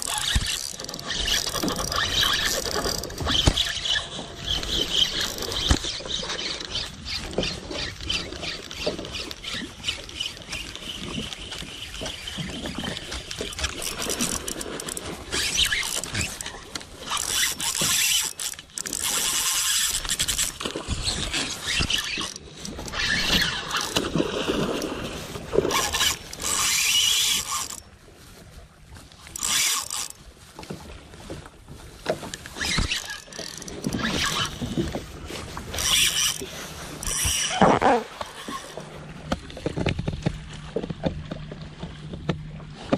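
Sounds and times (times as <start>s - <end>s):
water slapping against hull: 0.0s - 42.9s.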